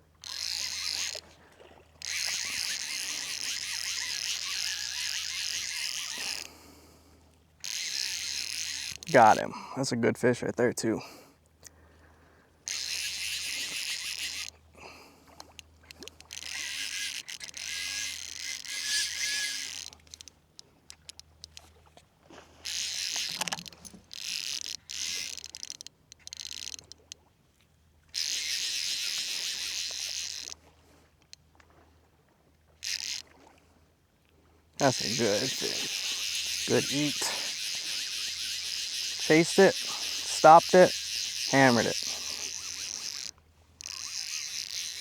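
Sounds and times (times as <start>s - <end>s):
fly reel drag whirring: 0.1s - 9.5s, 12.6s - 27.3s, 28.0s - 31.8s, 32.6s - 33.5s, 34.8s - 45.0s.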